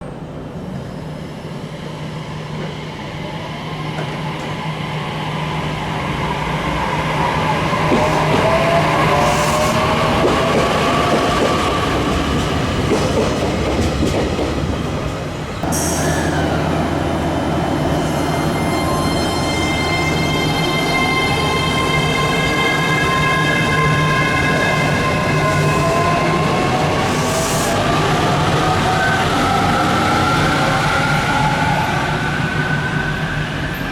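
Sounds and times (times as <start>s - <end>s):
electric train whining: 0.7s - 33.9s.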